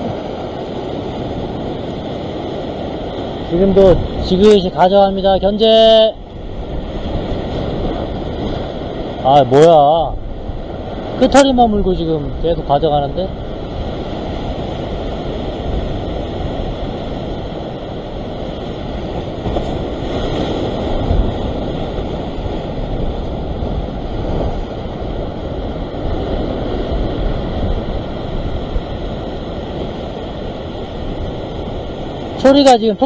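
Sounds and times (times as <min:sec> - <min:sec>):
surf washing over rocks: 0:00.0 - 0:33.0
wind buffeting microphone: 0:00.0 - 0:33.0.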